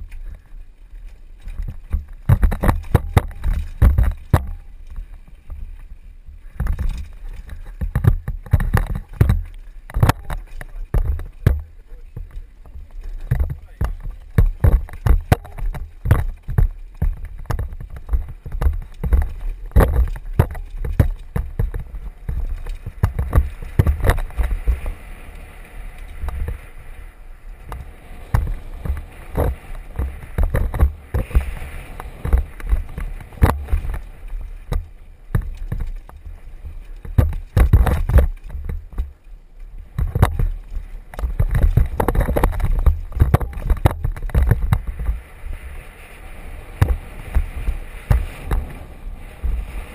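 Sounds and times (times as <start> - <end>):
mountain bike clattering over rocks: 0.0 - 45.6
constant low rumble: 0.0 - 49.9.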